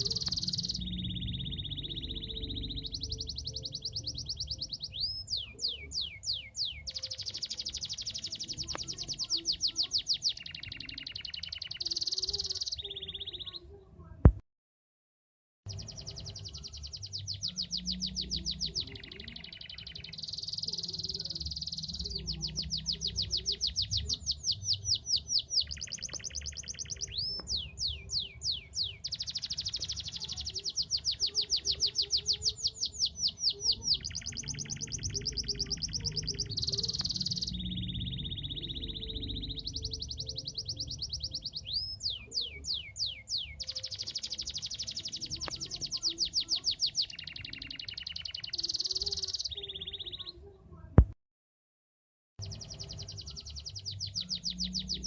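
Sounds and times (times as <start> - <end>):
canary singing trills: 0.0 - 13.8, 15.7 - 50.5, 52.4 - 55.0.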